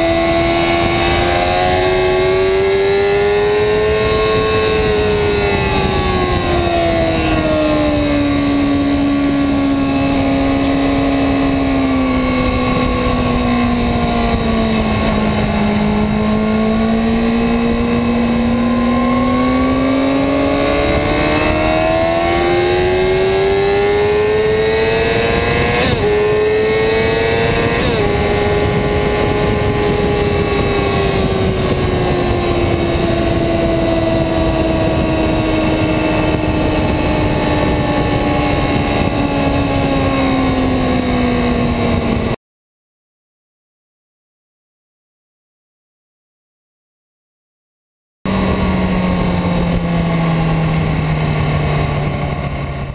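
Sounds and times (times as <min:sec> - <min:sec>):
motorcycle engine at speed: 0:00.0 - 0:42.4, 0:48.3 - 0:52.9
wind rush: 0:00.0 - 0:42.4, 0:48.3 - 0:52.9.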